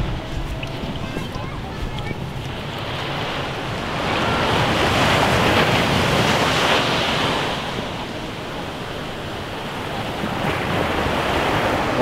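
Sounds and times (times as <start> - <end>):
waves breaking on beach: 0.0 - 12.0
wind buffeting microphone: 0.0 - 12.0.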